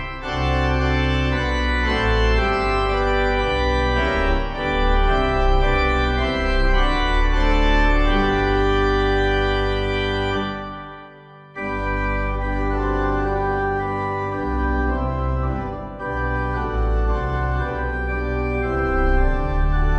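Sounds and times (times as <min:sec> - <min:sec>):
organ-like keyboard chords: 0:00.0 - 0:19.9.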